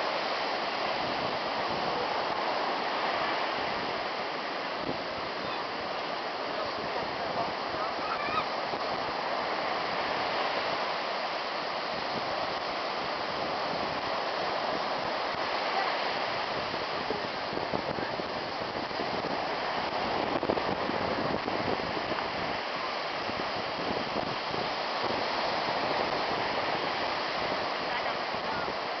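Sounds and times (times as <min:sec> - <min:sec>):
ocean waves on beach: 0:00.0 - 0:29.0.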